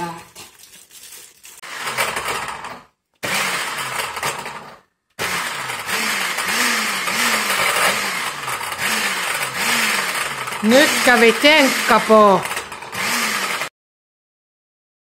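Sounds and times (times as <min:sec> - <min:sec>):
blender crushing ice: 0:00.0 - 0:13.7.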